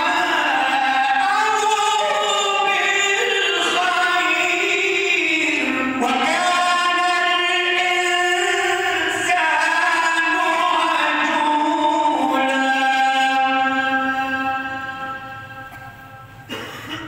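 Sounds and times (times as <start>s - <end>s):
man chanting recitation: 0.0s - 15.7s.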